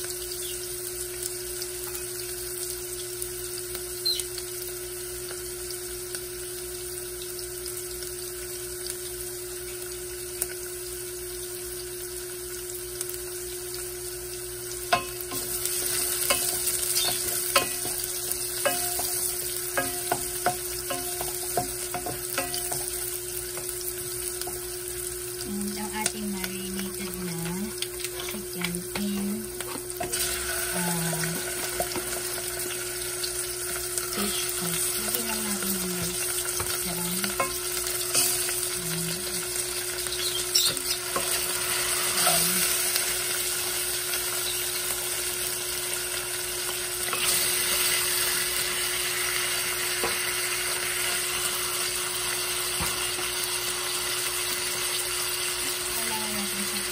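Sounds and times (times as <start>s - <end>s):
onions sizzling in hot oil: 0.0s - 56.9s.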